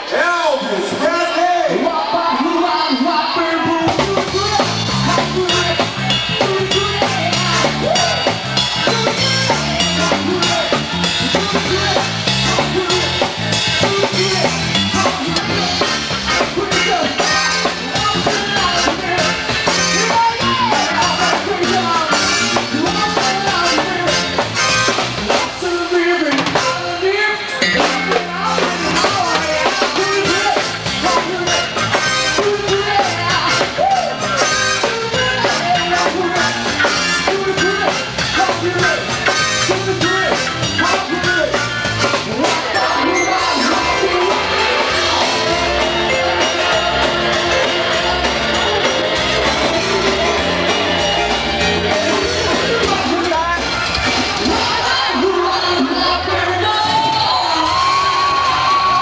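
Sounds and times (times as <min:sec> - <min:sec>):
live band playing: 0:00.0 - 0:59.0
electric bass line: 0:03.5 - 0:59.0
drum kit beat: 0:03.6 - 0:59.0.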